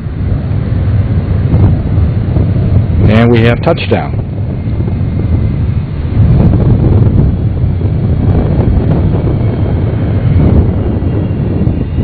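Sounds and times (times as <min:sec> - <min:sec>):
jet engines running: 0:00.0 - 0:12.0
wind on microphone: 0:00.0 - 0:12.0.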